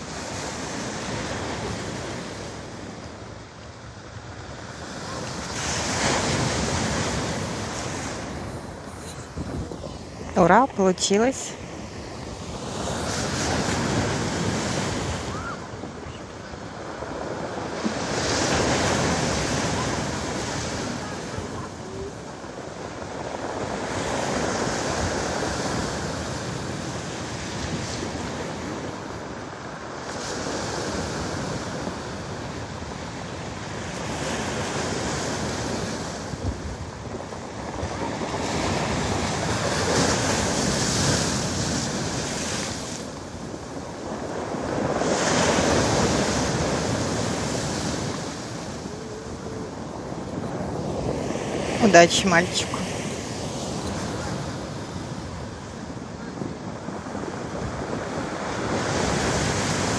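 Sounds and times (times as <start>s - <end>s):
surf crashing on pebble beach: 0.0s - 59.9s
wind buffeting microphone: 4.1s - 52.4s.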